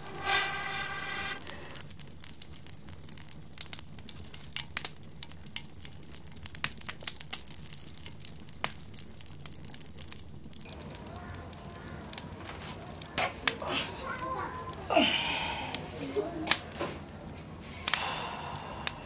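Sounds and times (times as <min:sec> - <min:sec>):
low steady hum: 0:00.0 - 0:19.0
wood fire crackling and popping: 0:00.0 - 0:19.0.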